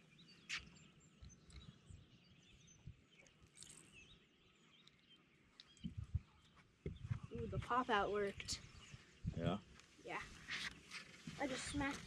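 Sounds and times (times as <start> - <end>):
distant birds chirping: 0.0 - 12.0.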